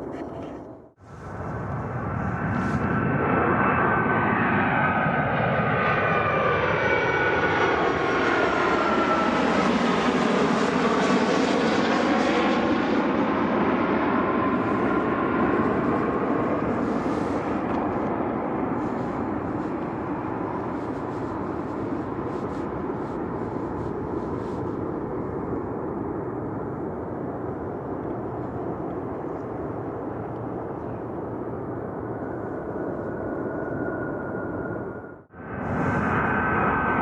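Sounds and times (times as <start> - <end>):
jet airliner engines rushing: 0.0 - 37.0.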